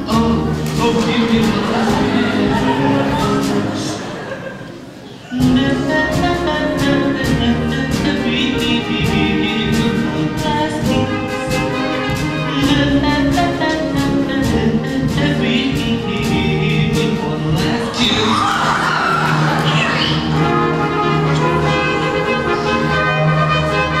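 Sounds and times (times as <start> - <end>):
upbeat live band music: 0.0 - 4.2, 5.4 - 24.0.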